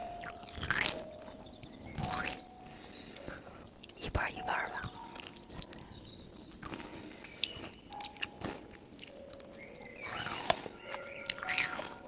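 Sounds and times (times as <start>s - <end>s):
person chewing crunchy food: 0.0s - 4.0s, 4.8s - 12.0s.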